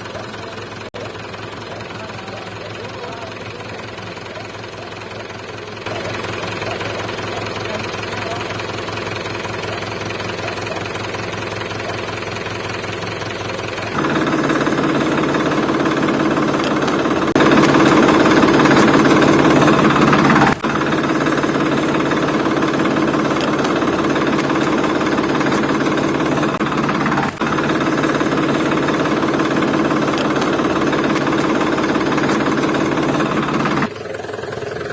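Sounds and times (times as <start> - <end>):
engine rattling: 0.0 - 34.9.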